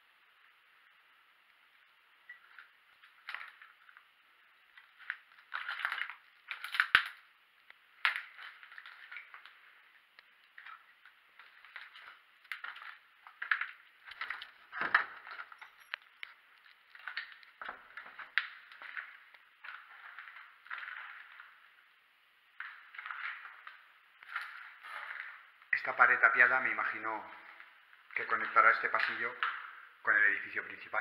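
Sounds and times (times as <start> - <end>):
footsteps over rubble: 2.3 - 21.9, 22.5 - 30.0.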